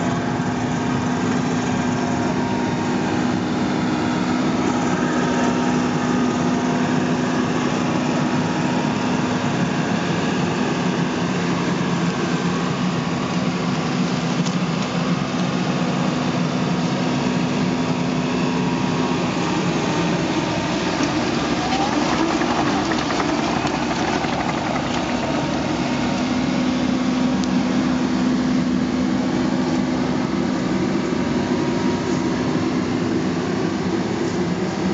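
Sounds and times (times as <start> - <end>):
hydraulic earth auger: 0.0 - 31.2
excavator diesel engine running: 0.0 - 34.9.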